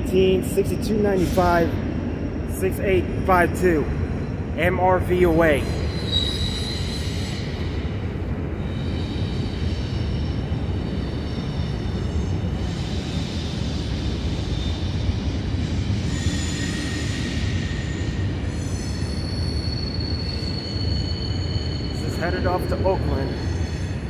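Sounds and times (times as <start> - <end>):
freight train rumbling: 0.0 - 24.0
train wheel squeal: 0.0 - 24.0.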